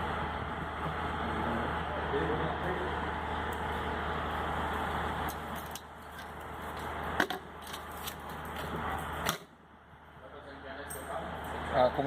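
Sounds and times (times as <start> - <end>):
workshop hum: 0.0 - 12.0.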